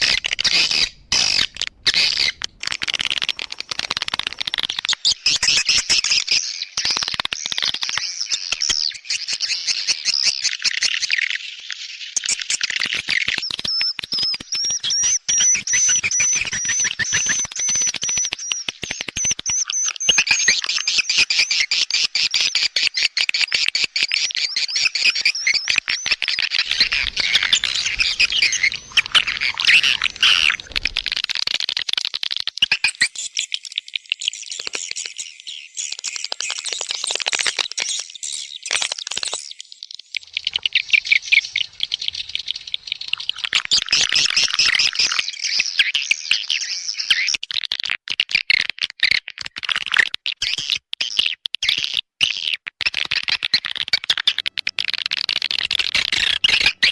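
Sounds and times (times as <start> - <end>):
high twittering and chirping birds: 0.0 - 31.6, 32.5 - 47.3, 53.9 - 56.9.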